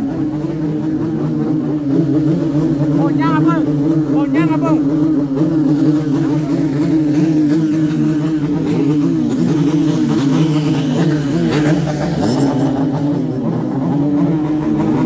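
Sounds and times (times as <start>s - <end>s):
motorcycle engine droning: 0.0s - 15.0s
motorcycle engines revving: 0.0s - 15.0s.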